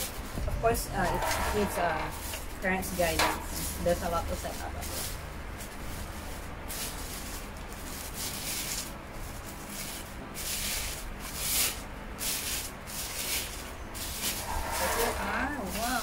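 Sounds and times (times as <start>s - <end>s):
protective wrapping rustling: 0.0s - 16.0s.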